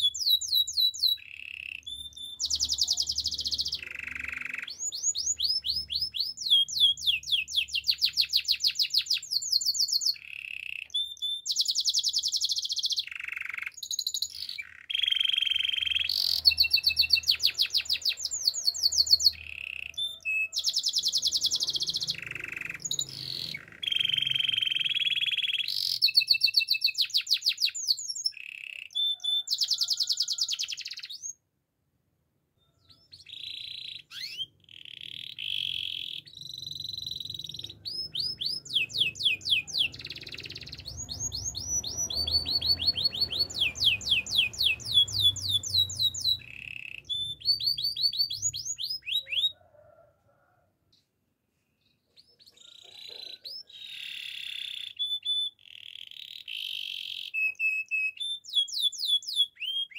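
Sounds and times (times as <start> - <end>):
canary singing: 0.0 - 31.5, 32.6 - 50.0, 51.8 - 59.9.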